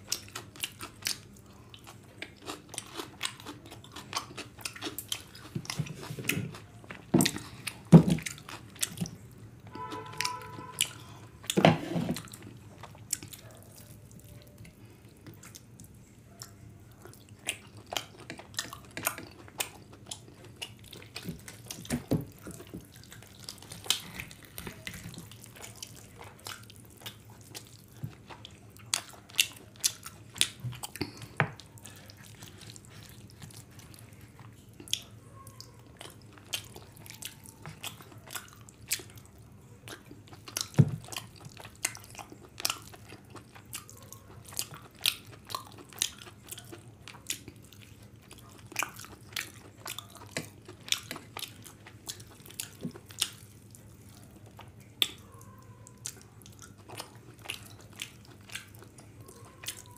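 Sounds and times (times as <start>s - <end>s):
chewing and lip-smacking: 0.0s - 9.4s, 12.2s - 59.9s
faint low hum: 0.0s - 59.9s.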